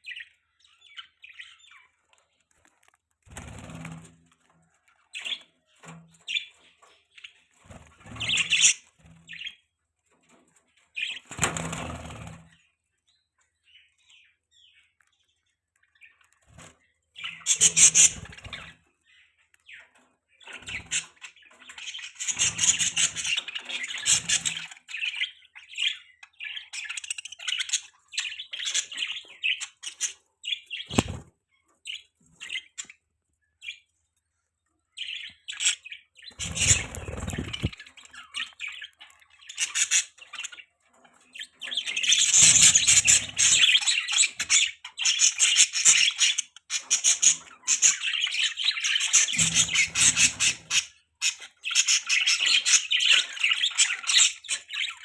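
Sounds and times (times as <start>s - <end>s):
budgerigars chirping and chattering: 0.0s - 4.1s, 5.0s - 34.0s, 34.8s - 55.0s.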